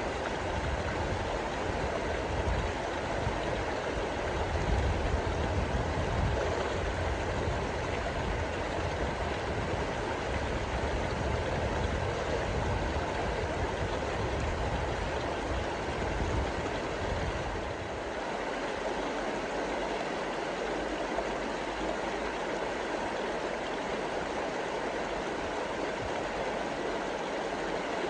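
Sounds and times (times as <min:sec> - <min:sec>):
river rapids rushing: 0:00.0 - 0:28.0.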